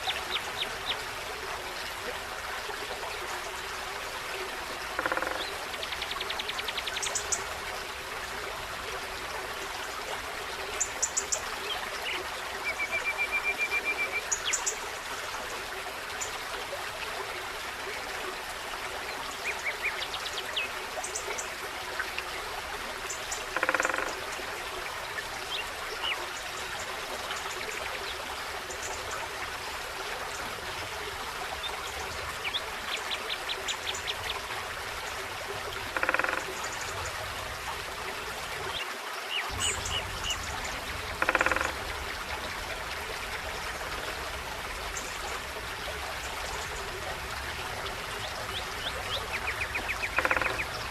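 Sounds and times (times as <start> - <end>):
stream babbling: 0.0 - 50.9.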